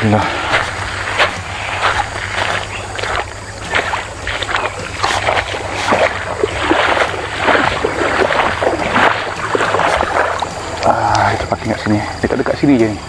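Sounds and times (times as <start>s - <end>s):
stream water splashing: 0.4s - 12.0s.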